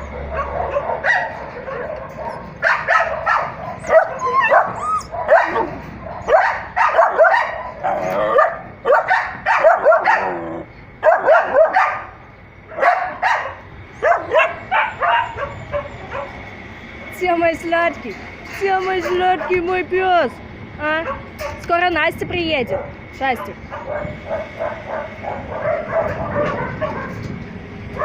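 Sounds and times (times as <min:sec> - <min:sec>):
dogs barking and yipping: 0:00.0 - 0:17.1, 0:18.4 - 0:19.8, 0:20.9 - 0:21.6, 0:22.7 - 0:28.0.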